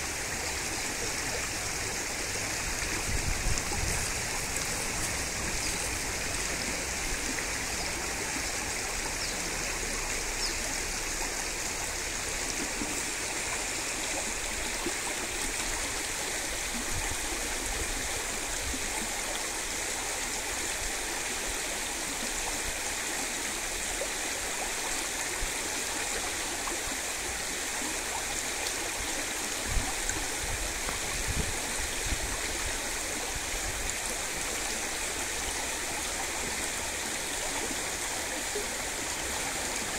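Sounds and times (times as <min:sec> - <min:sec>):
stream running over pebbles: 0:00.0 - 0:39.9.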